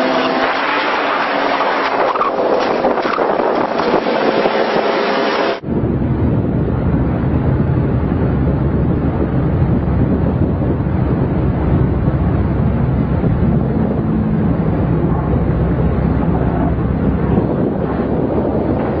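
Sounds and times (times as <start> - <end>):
moving vehicle running noise: 0.0 - 19.0
wind buffeting microphone: 0.0 - 19.0.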